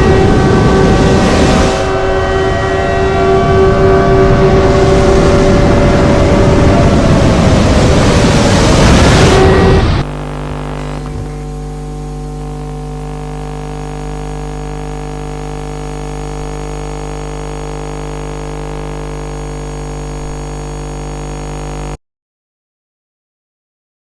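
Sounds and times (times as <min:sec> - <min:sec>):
steady electronic drone: 0:00.0 - 0:22.0.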